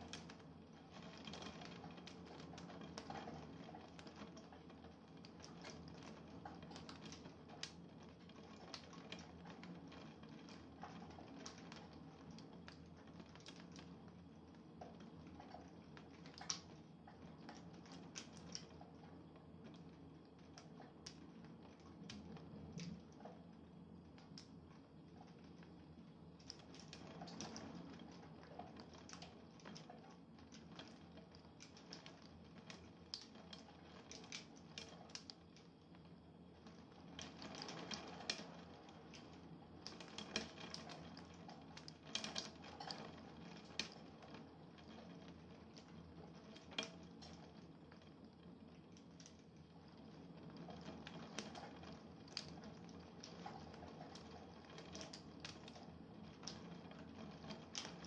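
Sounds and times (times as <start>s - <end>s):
low steady hum: 0.0s - 58.0s
raindrops tapping: 0.0s - 58.0s.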